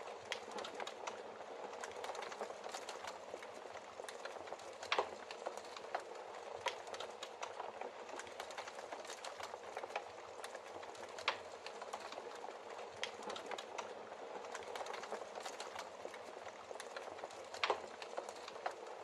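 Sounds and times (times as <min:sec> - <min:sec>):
fire hissing and crackling: 0:00.1 - 0:19.0.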